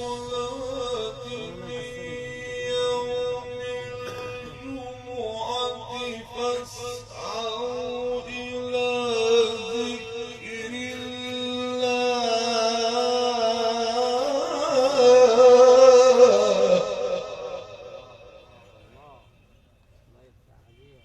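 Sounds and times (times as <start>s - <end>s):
man reciting in sung notes: 0.0s - 19.4s, 20.1s - 21.0s.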